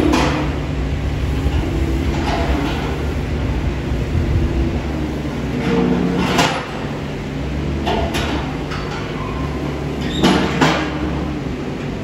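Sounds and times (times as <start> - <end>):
wheel loader engine running: 0.0 - 12.0.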